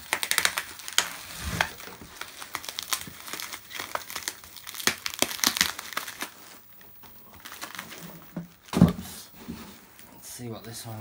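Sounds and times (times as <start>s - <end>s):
bubble wrap crackling: 0.0s - 10.0s.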